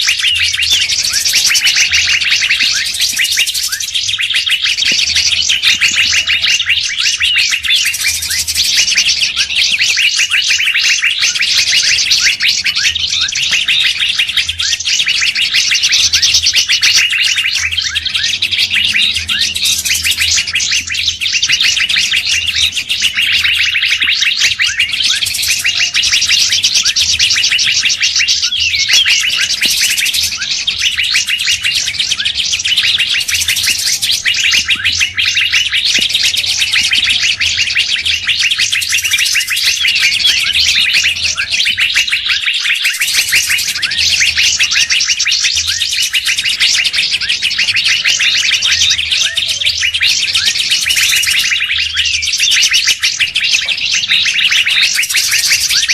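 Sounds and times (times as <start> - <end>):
chorus of songbird chirps: 0.0 - 55.9.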